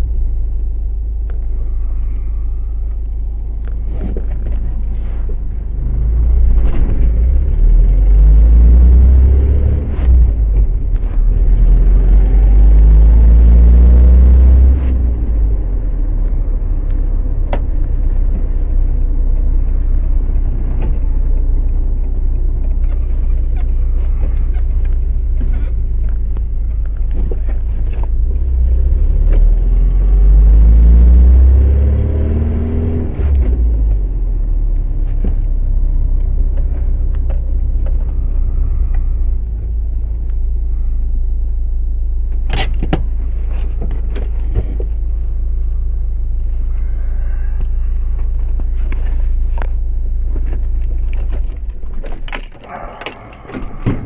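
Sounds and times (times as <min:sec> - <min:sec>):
deep rumble: 0:00.0 - 0:54.0.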